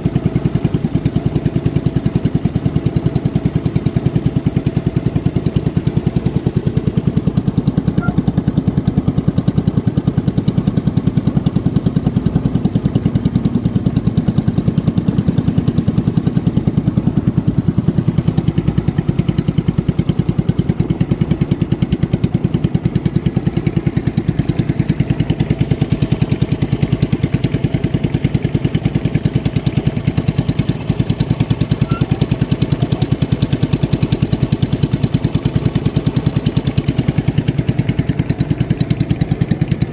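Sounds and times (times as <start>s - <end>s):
boat engine running steadily: 0.0s - 39.9s.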